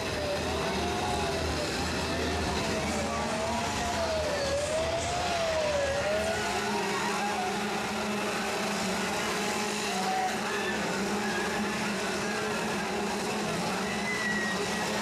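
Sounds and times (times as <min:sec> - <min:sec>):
chainsaws running: 0:00.0 - 0:15.0
siren wailing: 0:03.0 - 0:15.0.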